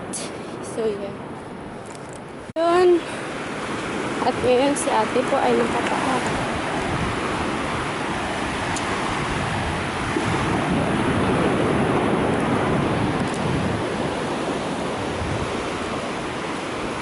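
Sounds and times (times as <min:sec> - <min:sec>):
wind on microphone: 0:00.0 - 0:17.0
ocean surf washing onto beach: 0:02.6 - 0:17.0.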